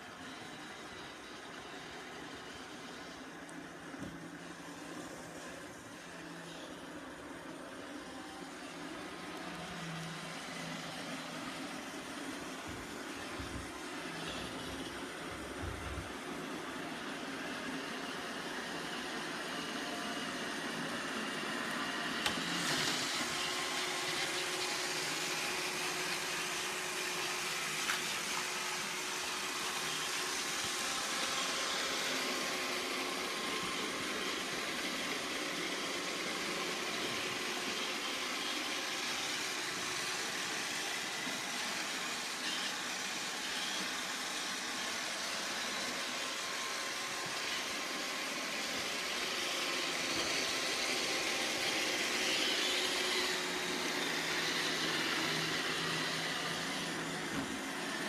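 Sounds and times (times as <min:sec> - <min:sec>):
robot vacuum whirring: 0:00.0 - 0:58.0.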